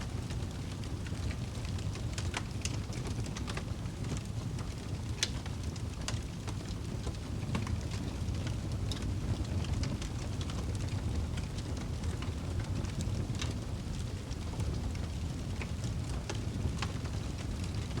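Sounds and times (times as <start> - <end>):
burning wood crackling and popping: 0.0 - 18.0
low rumble of flames: 0.0 - 18.0.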